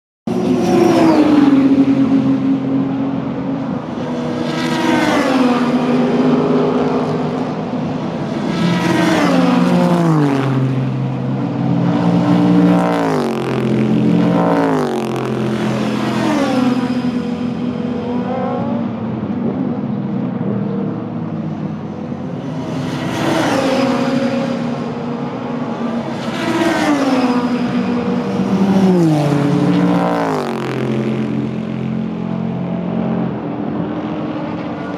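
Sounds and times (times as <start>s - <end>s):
race cars passing at speed: 0.3s - 34.9s.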